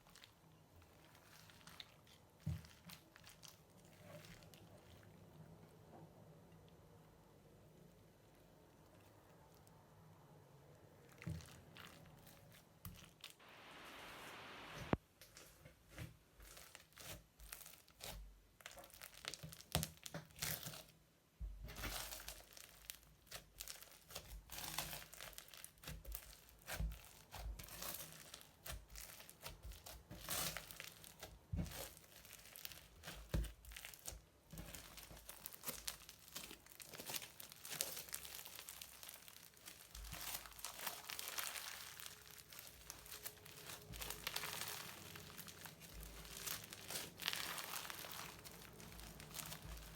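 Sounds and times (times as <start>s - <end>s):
crunchy slime crackling by hand: 0.0s - 5.8s, 8.0s - 14.4s, 15.2s - 49.9s.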